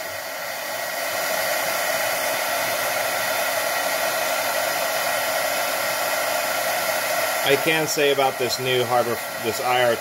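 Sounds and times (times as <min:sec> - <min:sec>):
heat gun blowing air: 0:00.0 - 0:10.0.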